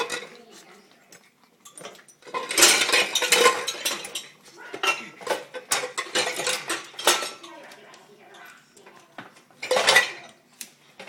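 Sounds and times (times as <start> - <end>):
dishes and cutlery clinking: 0.0 - 11.0.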